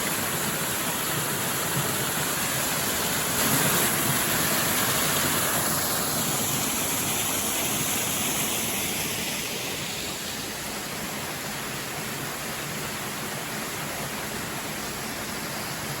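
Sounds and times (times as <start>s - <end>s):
small waterfall rushing: 0.0s - 16.0s.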